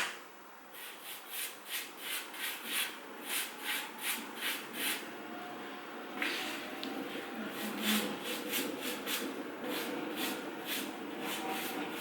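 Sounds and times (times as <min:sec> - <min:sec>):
rubbing strokes on wood: 0:00.8 - 0:05.1, 0:06.4 - 0:12.0.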